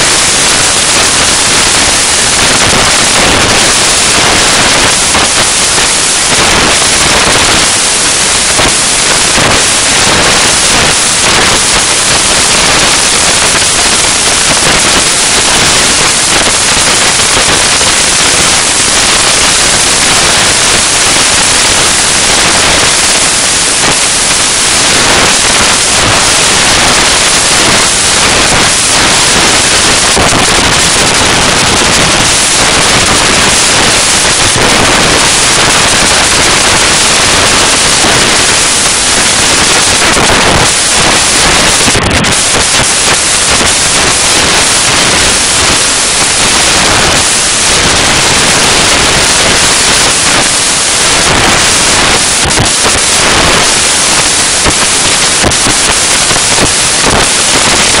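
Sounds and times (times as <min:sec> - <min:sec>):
hissing and crackling noise: 0:00.0 - 0:58.0.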